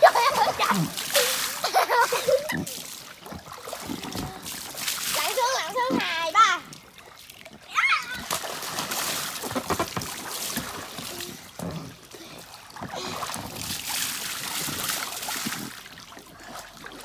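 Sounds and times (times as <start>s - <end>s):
water splashing in a pool: 0.0s - 17.0s.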